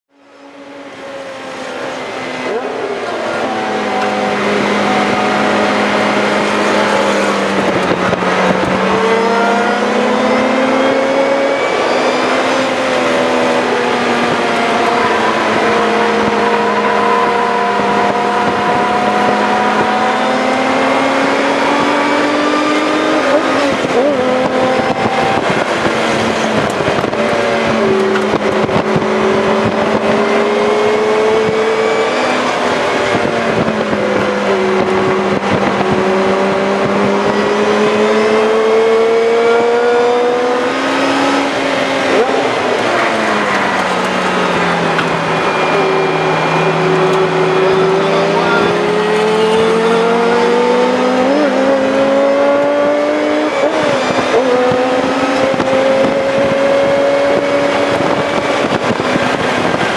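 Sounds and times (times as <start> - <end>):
car engine under hard driving: 0.1 - 59.9.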